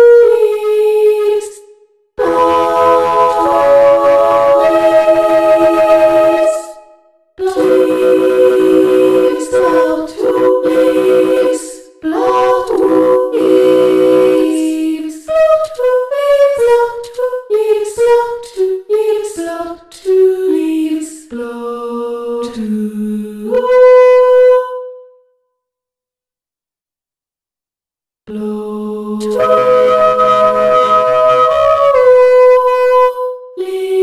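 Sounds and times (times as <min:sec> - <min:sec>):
sampled female voice singing: 0:00.0 - 0:24.8, 0:28.3 - 0:34.0.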